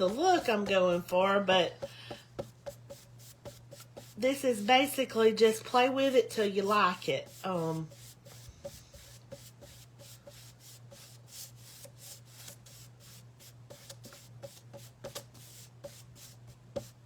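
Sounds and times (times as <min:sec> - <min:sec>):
paintbrush scrubbing on canvas: 0:00.0 - 0:17.0.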